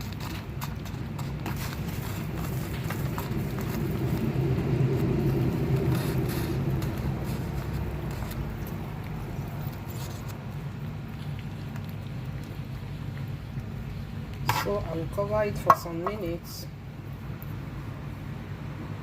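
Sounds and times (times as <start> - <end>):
pot of soup rumbling: 0.0 - 19.0.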